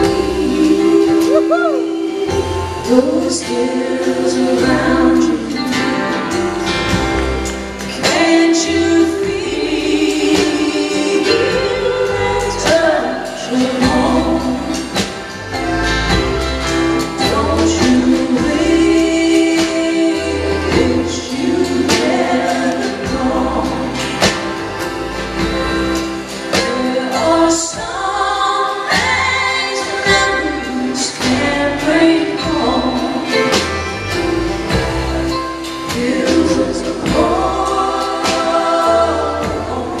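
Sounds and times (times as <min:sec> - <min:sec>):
acoustic guitars: 0:00.0 - 0:40.0
rhythm section: 0:00.0 - 0:40.0
voices singing together: 0:00.0 - 0:40.0.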